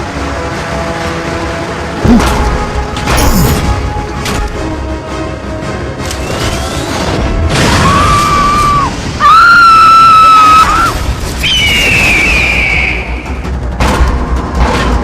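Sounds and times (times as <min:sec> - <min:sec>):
action film music with booms: 0:00.0 - 0:15.0.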